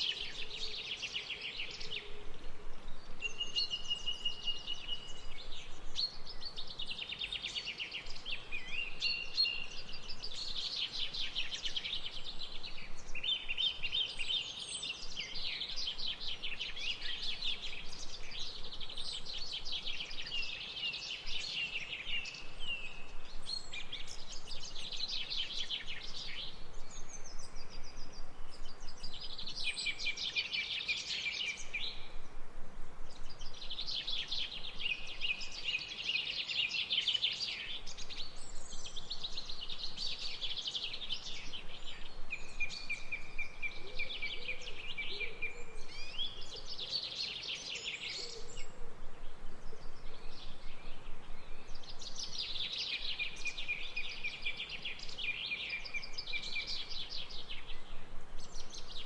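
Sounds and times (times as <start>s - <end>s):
faint background hiss: 0.0s - 59.0s.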